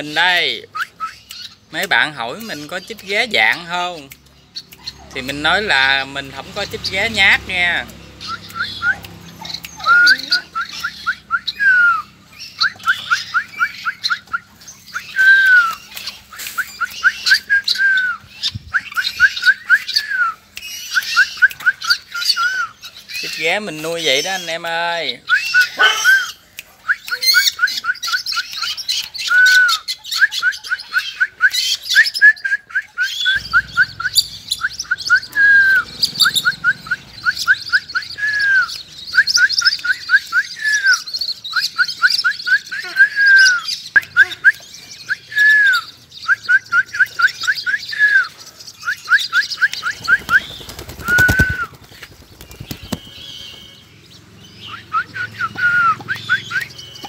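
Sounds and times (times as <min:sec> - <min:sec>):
caged birds calling: 0:00.0 - 0:57.0
higher bird chirps: 0:00.0 - 0:57.0.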